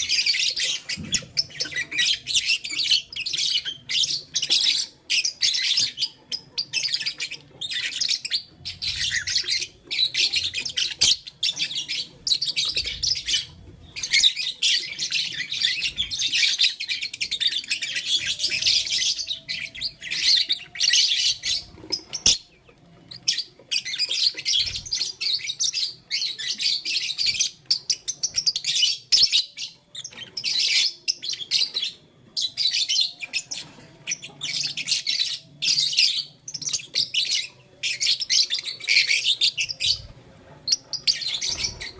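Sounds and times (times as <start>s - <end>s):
lovebirds chirping: 0.0s - 41.9s.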